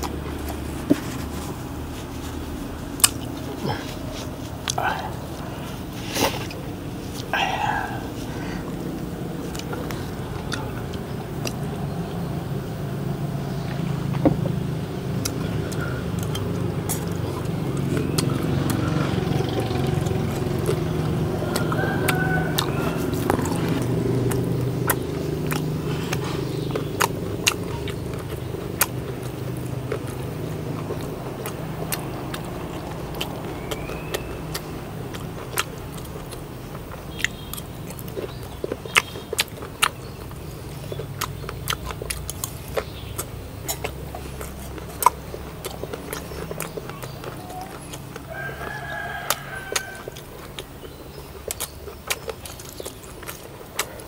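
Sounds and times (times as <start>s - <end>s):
low motor rumble: 0.0s - 54.0s
person chewing crunchy food: 0.0s - 54.0s.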